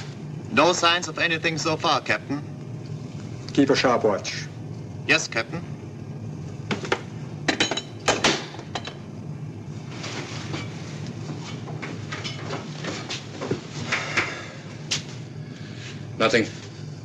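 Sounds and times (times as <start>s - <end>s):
low hum of submarine machinery: 0.0s - 17.0s.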